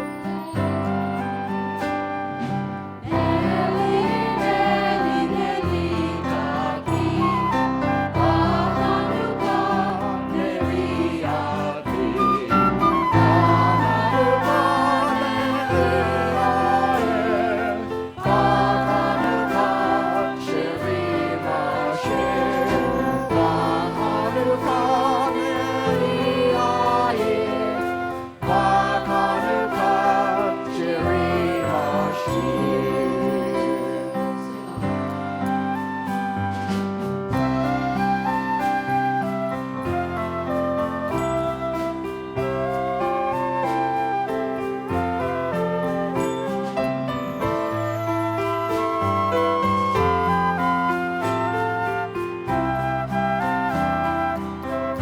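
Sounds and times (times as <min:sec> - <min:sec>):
music with singing: 0:00.0 - 0:53.2.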